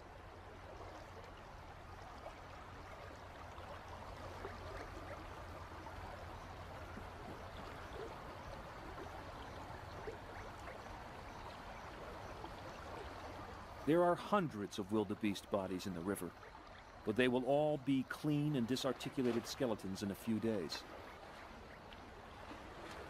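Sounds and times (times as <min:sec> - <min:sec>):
river water flowing: 0:00.0 - 0:23.0
small splashes and trickles: 0:00.0 - 0:23.0.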